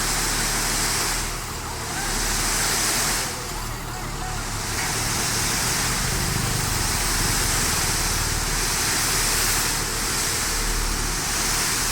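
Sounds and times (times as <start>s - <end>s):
continuous rushing noise: 0.0s - 11.9s
diesel truck engine running: 0.0s - 11.9s.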